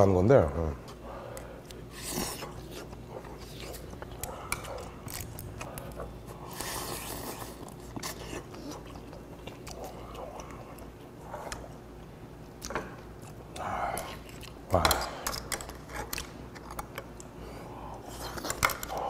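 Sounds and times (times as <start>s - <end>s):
man chewing food: 0.9s - 19.0s.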